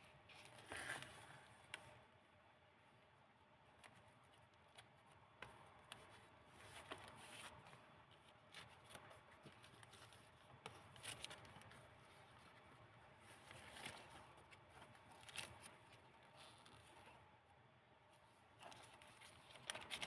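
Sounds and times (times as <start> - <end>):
paper pages rustling: 0.2 - 1.9, 3.8 - 17.3, 18.2 - 20.0.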